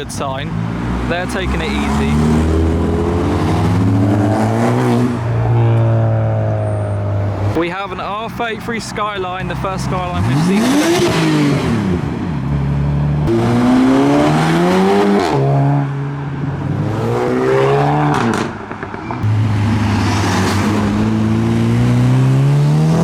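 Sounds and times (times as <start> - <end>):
cars accelerating through gears: 0.5 - 7.6, 9.8 - 23.0.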